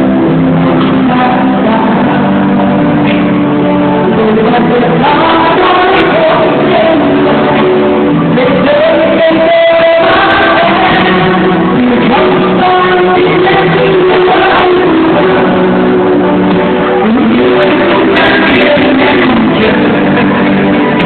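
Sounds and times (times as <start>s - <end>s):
guitar: 0.0s - 21.0s
live pop band: 0.0s - 21.0s
person singing: 0.0s - 21.0s.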